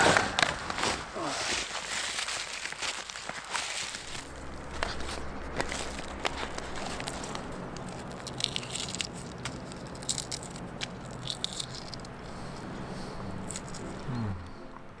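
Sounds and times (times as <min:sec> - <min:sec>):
footsteps crunching on snow: 0:00.0 - 0:14.5.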